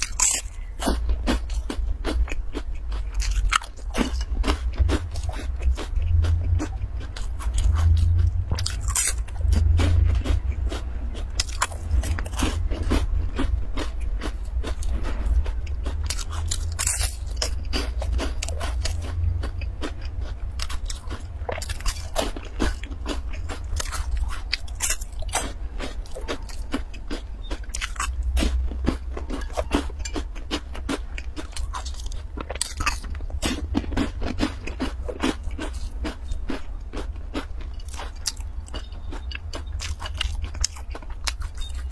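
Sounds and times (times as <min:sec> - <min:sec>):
crunchy chewing: 0:00.0 - 0:41.9
steady low hum: 0:00.0 - 0:41.9.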